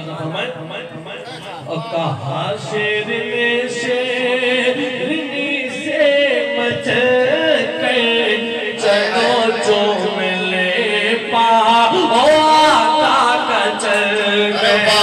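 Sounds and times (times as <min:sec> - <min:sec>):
man singing long held notes: 0:01.9 - 0:15.0.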